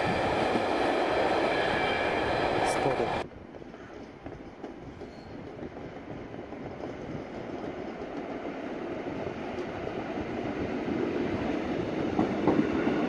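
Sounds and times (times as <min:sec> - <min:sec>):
electric train approaching: 0:00.0 - 0:13.0.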